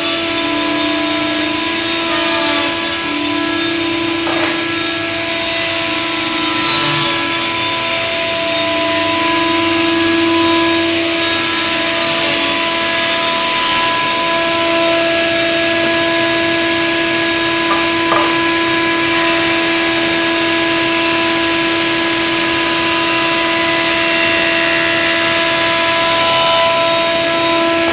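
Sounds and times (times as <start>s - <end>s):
jointer motor humming: 0.0s - 27.9s.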